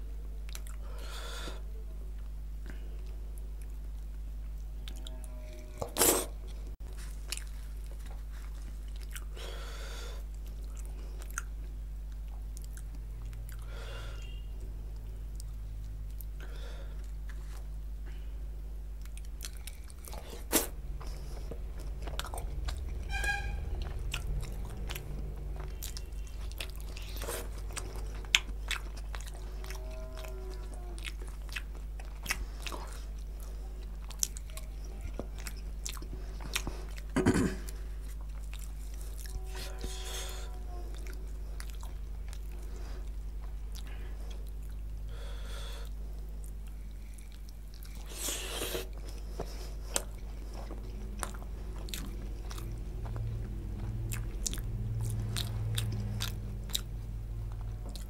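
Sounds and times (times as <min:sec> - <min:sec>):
low hum: 0:00.0 - 0:58.0
wet chewing and smacking: 0:00.4 - 0:00.9, 0:02.2 - 0:09.4, 0:10.2 - 0:18.2, 0:18.9 - 0:45.1, 0:45.8 - 0:58.0.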